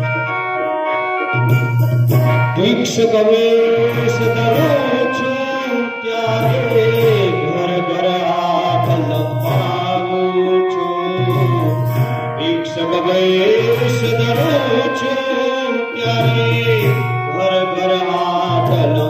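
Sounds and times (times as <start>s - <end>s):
electronic keyboard sustained notes: 0.0s - 19.0s
person singing: 2.3s - 19.0s.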